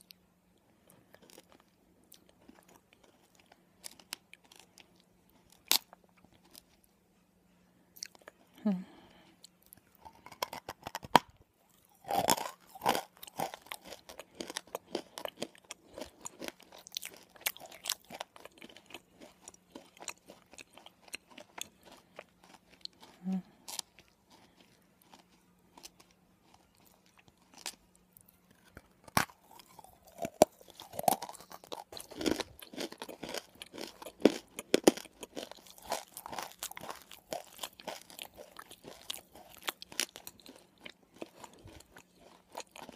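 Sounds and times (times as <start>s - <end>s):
crunching and chewing: 0.0s - 6.9s, 7.9s - 42.9s.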